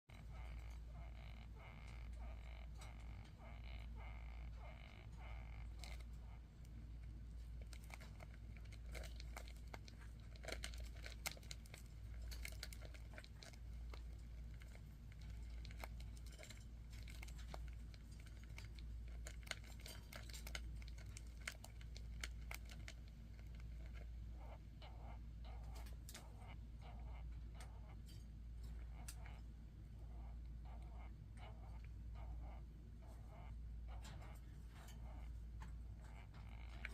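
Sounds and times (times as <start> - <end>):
beetles scratching and clicking: 0.1 - 36.9
steady low hum: 0.1 - 36.9.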